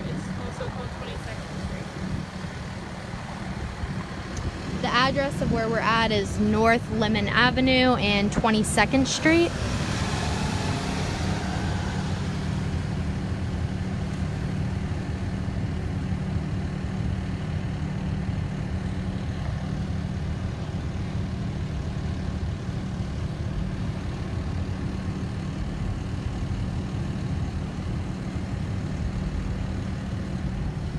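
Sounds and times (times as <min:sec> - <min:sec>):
vehicle engine idling: 0:00.0 - 0:30.9.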